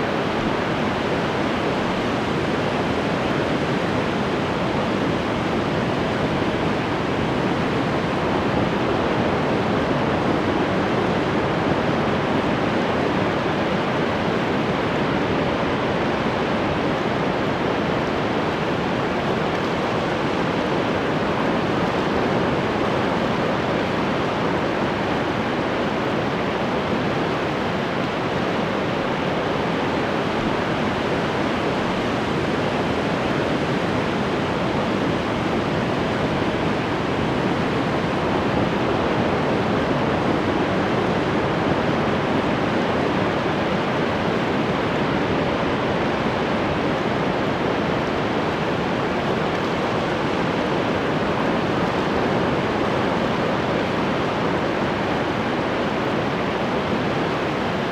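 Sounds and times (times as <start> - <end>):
ocean surf washing on shore: 0.0 - 57.9.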